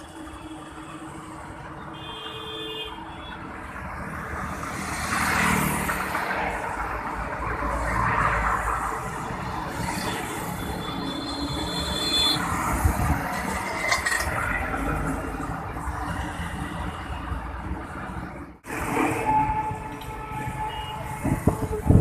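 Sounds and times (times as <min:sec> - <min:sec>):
highway traffic rushing: 0:00.0 - 0:22.0.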